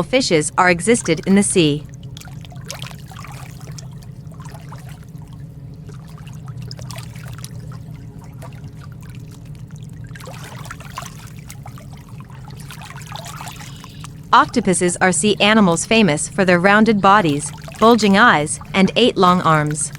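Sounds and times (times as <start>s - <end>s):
steady low hum: 0.0s - 19.9s
water bubbling and trickling: 0.0s - 19.9s.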